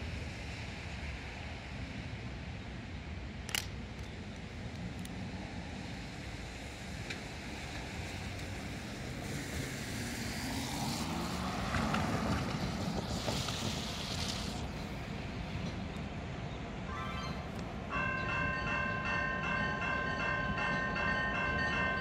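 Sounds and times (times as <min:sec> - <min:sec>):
diesel locomotive engine rumble: 0:00.0 - 0:10.1, 0:11.4 - 0:22.0.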